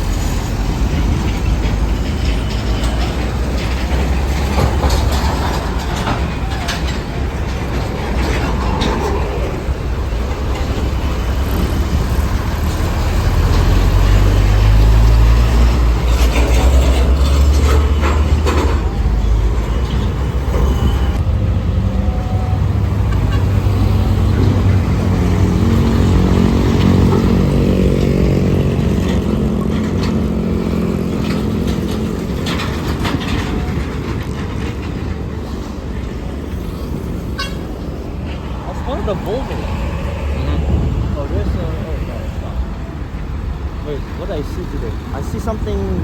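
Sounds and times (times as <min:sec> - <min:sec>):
large vehicle engine rumble: 0:00.0 - 0:46.0.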